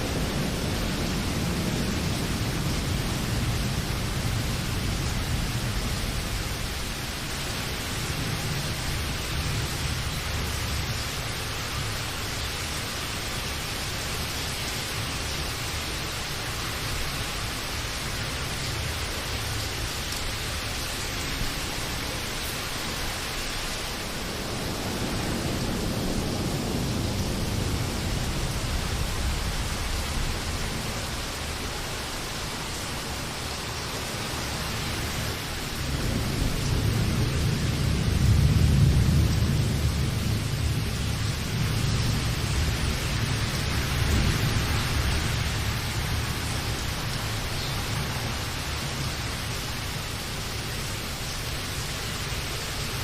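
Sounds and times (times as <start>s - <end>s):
distant thunder rumble: 0.0s - 12.4s, 16.9s - 50.2s
steady rain: 0.0s - 53.0s.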